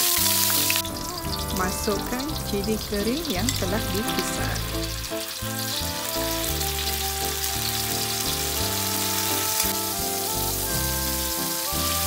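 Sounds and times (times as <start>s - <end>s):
background music of held notes: 0.0s - 12.0s
paste sizzling in hot oil: 0.0s - 12.0s.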